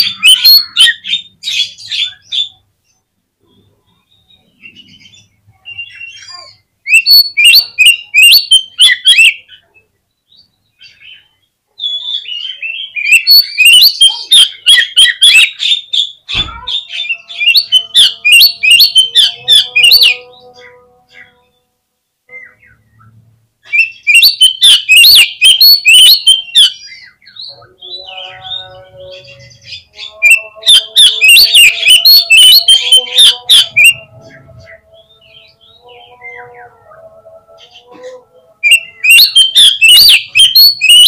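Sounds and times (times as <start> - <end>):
bird song chirps and whistles: 0.0 - 2.6, 3.5 - 9.6, 10.2 - 21.6, 22.3 - 36.8, 38.6 - 41.0.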